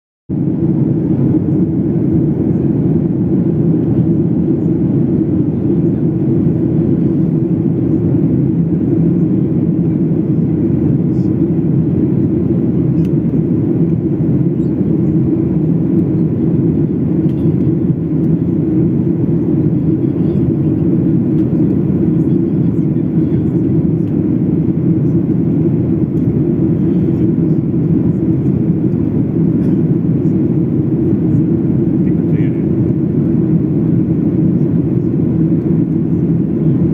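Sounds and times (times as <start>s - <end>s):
airliner engines droning: 0.3s - 36.9s.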